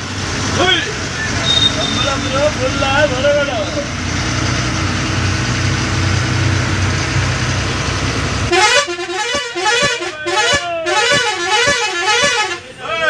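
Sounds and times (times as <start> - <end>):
bus engine running: 0.0 - 13.0
road noise: 0.0 - 13.0.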